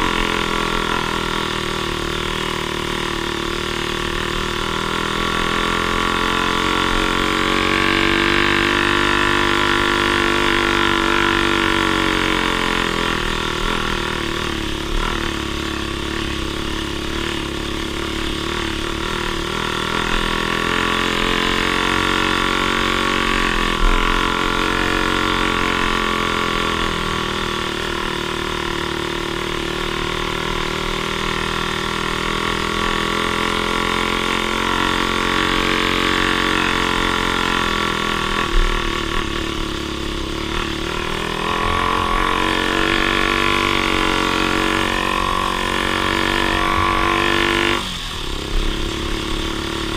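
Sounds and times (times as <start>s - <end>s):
off-road vehicle engine running: 0.0s - 49.9s.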